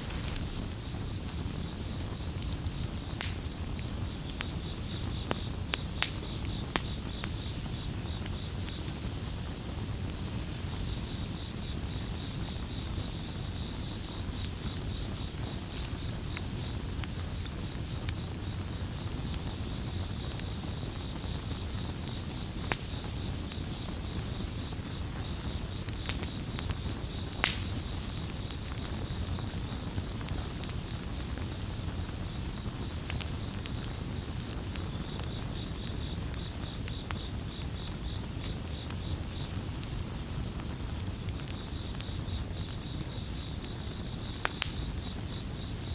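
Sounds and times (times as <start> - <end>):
campfire crackling and popping: 0.0 - 45.9
cricket trilling: 0.0 - 45.9.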